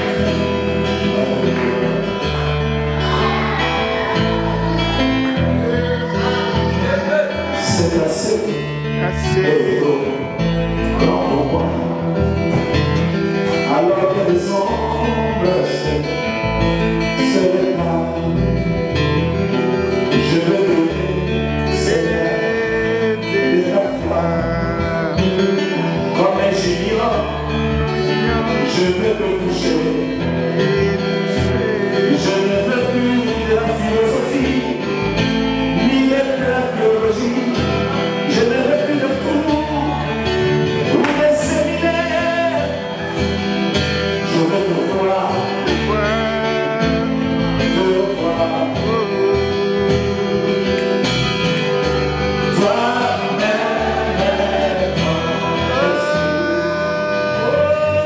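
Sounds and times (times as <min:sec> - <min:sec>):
man singing into microphone: 0:00.0 - 0:43.4, 0:44.0 - 0:51.0, 0:52.4 - 0:58.0
acoustic guitar: 0:00.0 - 0:58.0
bass line: 0:00.0 - 0:58.0.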